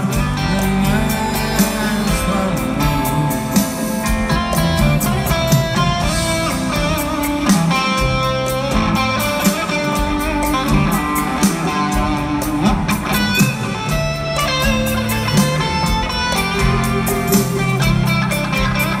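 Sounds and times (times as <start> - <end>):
bass guitar: 0.0 - 19.0
electric guitars: 0.0 - 19.0
drum hits: 2.2 - 19.0.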